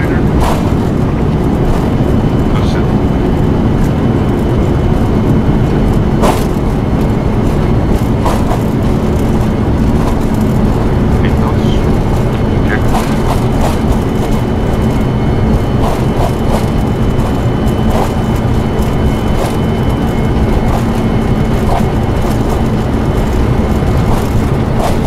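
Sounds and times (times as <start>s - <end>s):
aircraft engine and airflow noise: 0.0s - 25.0s
constant low hum: 0.0s - 25.0s.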